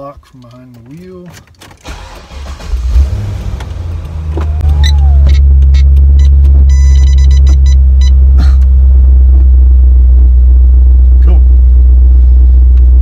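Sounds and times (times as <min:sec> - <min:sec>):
car engine idling: 0:01.8 - 0:13.0.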